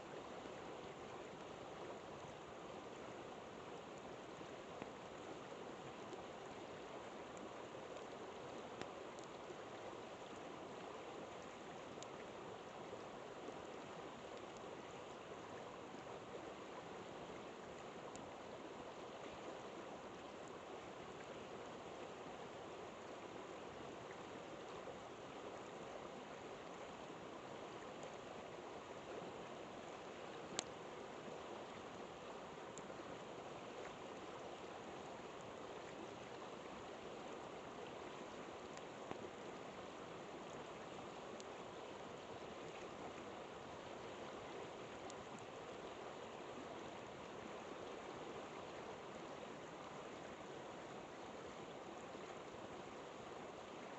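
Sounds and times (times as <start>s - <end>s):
river flowing: 0.0s - 53.9s.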